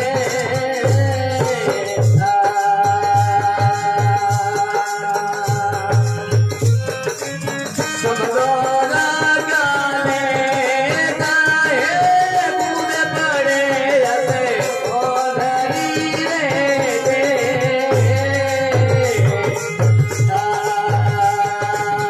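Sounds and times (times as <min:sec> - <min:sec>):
harmonium: 0:00.0 - 0:22.0
man singing: 0:00.0 - 0:22.0.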